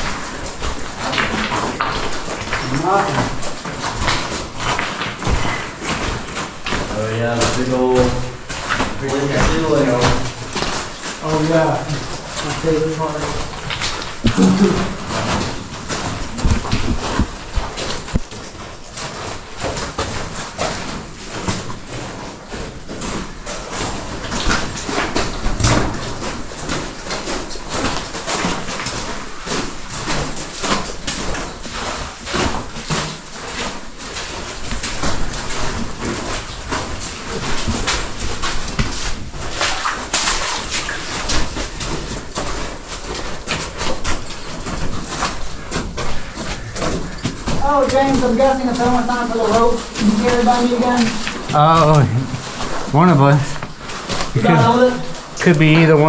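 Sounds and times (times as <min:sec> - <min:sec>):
footsteps on rock: 0:00.0 - 0:56.0.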